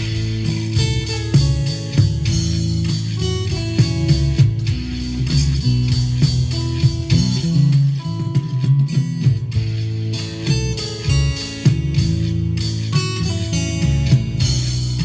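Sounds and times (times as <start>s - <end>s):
acoustic guitar song: 0.0s - 15.0s.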